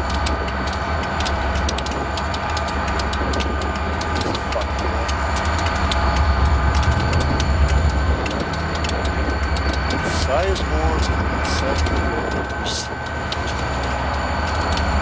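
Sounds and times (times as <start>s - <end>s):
locomotive engines idling: 0.0s - 15.0s
sharp clicks: 0.0s - 15.0s.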